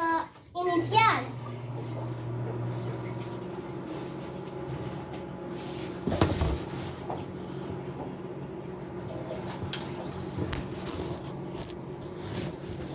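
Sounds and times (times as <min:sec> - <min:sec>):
microwave oven humming: 0:00.0 - 0:12.9.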